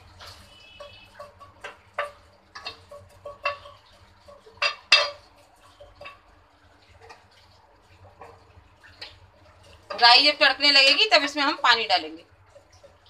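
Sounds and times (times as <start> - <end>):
spices crackling in hot oil: 0.0 - 13.0.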